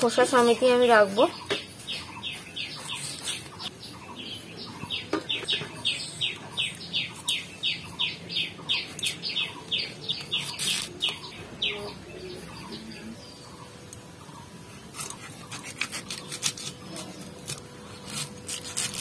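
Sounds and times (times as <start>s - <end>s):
bird chirping: 0.0s - 17.1s.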